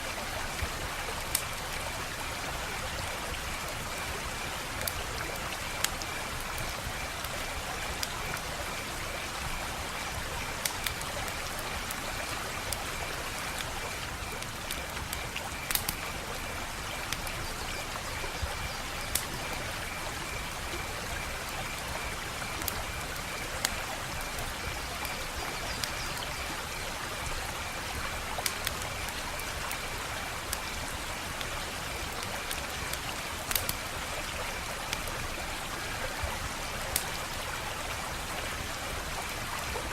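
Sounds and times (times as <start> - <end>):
wood fire hissing and popping: 0.4 - 39.9.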